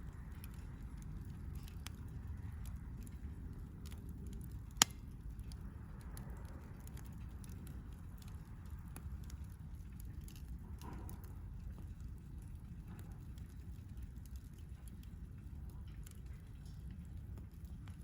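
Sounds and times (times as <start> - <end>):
campfire crackling: 0.0 - 18.0
low steady rumble: 0.0 - 18.0.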